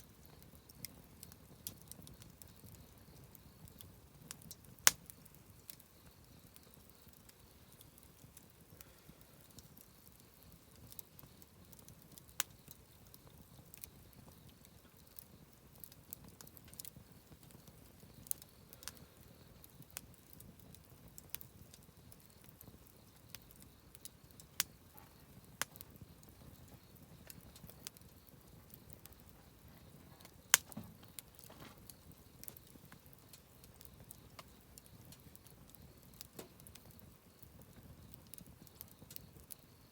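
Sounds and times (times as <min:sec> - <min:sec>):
campfire crackling: 0:00.0 - 0:39.9
faint hiss of burning: 0:00.0 - 0:39.9.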